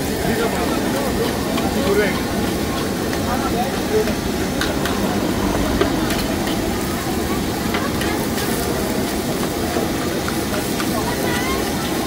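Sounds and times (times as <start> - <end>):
rice sizzling: 0.0 - 12.0.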